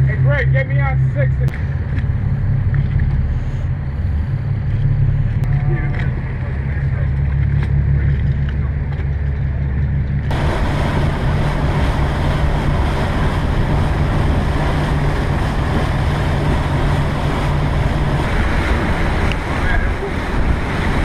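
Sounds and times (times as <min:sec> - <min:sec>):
motorboat engine drone: 0:00.0 - 0:21.0
rush of wind and water: 0:00.0 - 0:21.0.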